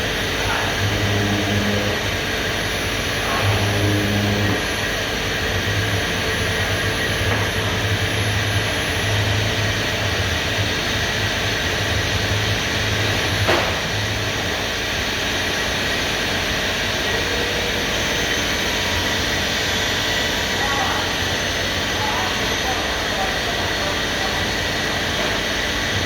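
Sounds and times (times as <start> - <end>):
cnc router running: 0.0 - 26.0.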